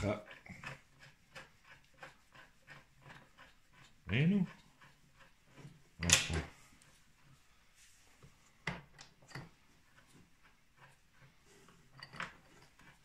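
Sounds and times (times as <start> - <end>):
light clicks and knocks of chain: 0.0 - 6.3, 8.6 - 13.0.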